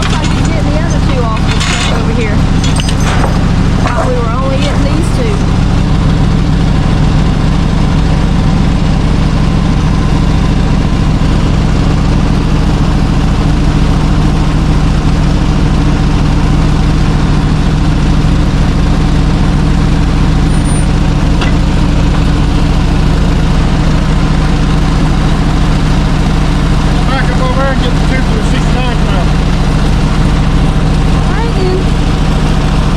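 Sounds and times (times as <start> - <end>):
truck engine idling: 0.0 - 32.9.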